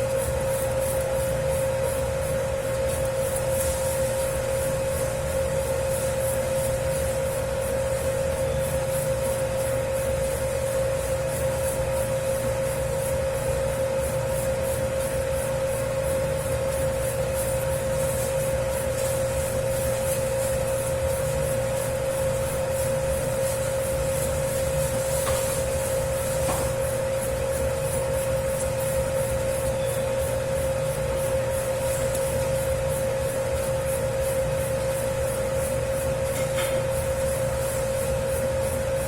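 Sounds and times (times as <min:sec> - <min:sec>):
dough mixer motor hum: 0:00.0 - 0:39.0
soft hiss of turning dough: 0:00.0 - 0:39.0.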